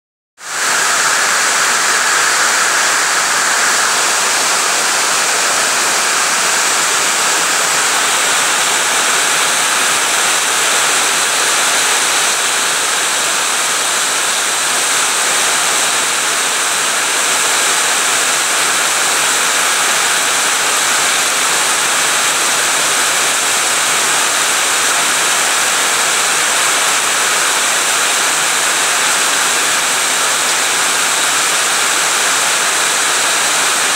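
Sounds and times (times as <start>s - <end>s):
heavy rain falling: 0.4s - 33.9s.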